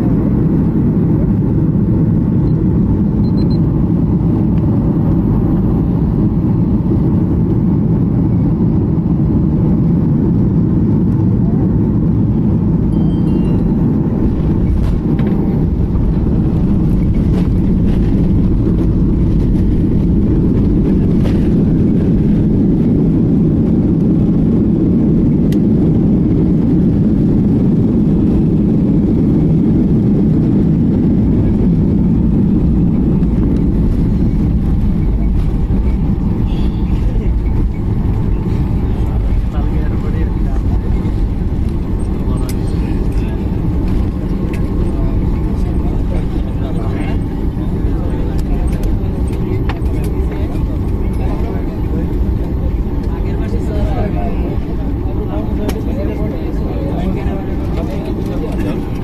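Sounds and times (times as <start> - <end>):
airflow over fuselage: 0.0 - 59.0
jet engines droning: 0.0 - 59.0.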